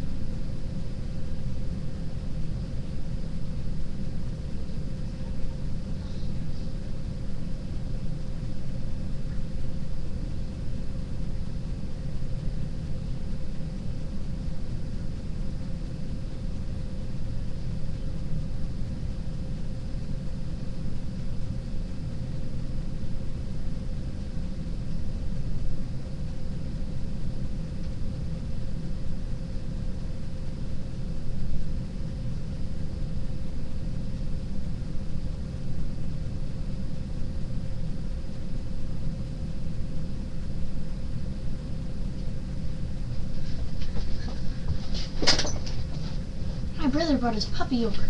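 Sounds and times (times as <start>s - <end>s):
constant hum: 0.0s - 48.0s.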